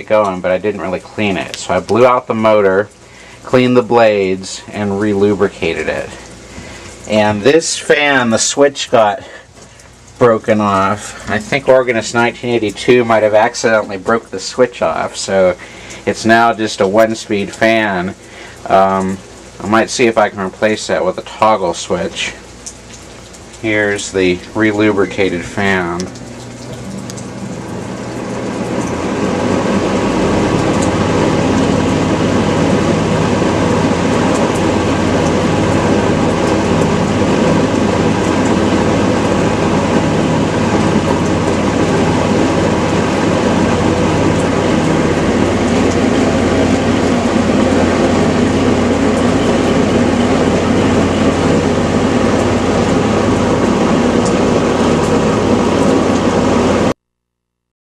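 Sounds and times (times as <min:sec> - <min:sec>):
electric box fan running: 0:00.0 - 0:57.0.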